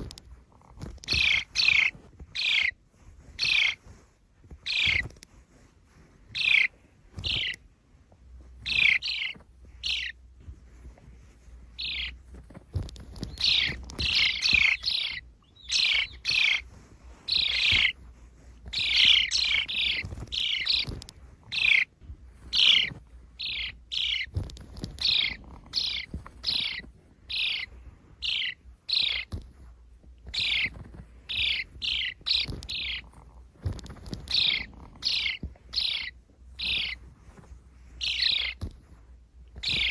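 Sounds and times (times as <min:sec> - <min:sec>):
sparrows chirping: 0:00.8 - 0:04.0, 0:04.6 - 0:05.2, 0:06.2 - 0:37.2, 0:37.8 - 0:38.8, 0:39.6 - 0:39.9.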